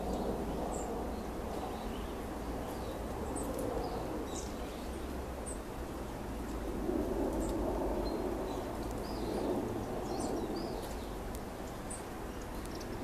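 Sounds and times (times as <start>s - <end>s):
songbirds chirping: 0.0s - 13.0s
steady low background noise: 0.0s - 13.0s.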